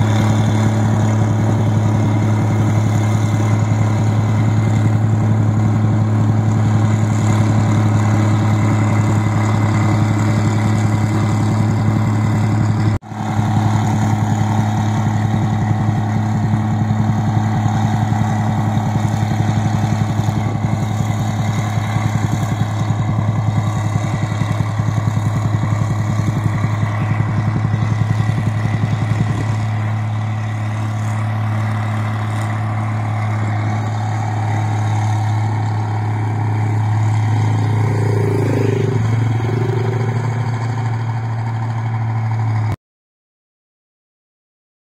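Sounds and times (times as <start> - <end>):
combine harvester engine running: 0.0 - 42.8.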